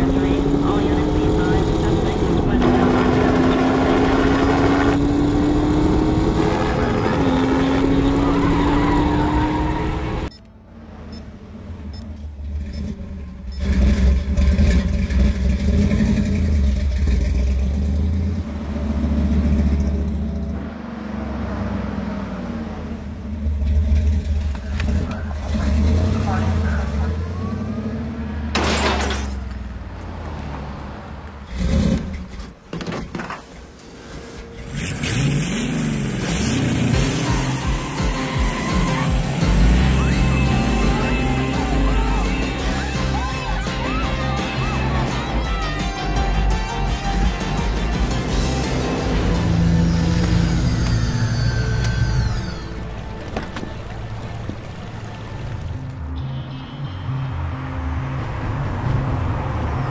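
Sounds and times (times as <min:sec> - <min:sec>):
car engine accelerating: 0:00.0 - 0:32.6, 0:33.8 - 0:59.9.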